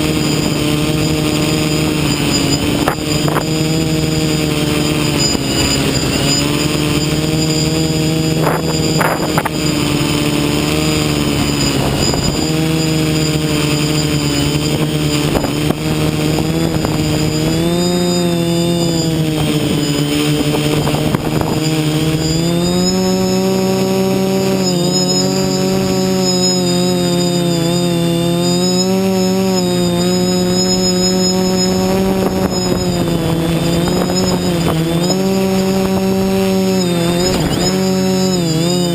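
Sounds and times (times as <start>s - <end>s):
drone motors buzzing: 0.0s - 38.9s.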